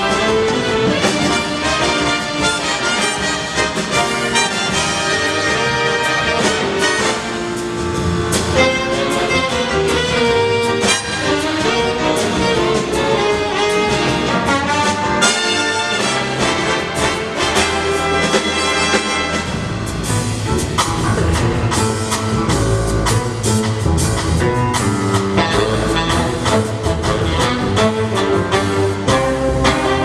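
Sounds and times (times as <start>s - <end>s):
big band playing jazz: 0.0s - 30.0s.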